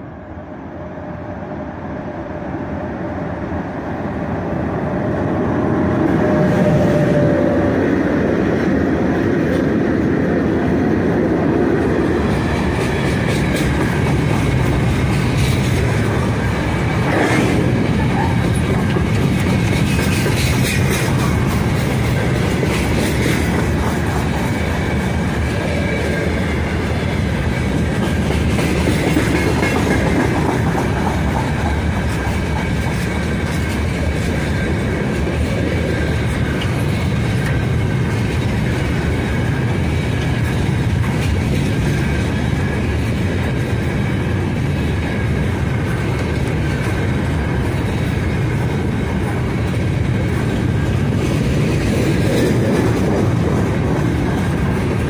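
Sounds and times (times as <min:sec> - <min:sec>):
wheels rumbling on rails: 0:00.0 - 0:55.0
clickety-clack over rail joints: 0:08.4 - 0:55.0.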